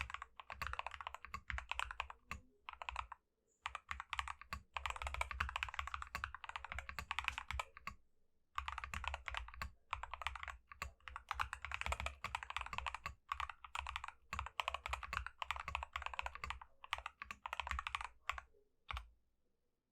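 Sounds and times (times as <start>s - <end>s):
fast typing on mechanical keyboard: 0.0s - 8.0s, 8.6s - 19.0s.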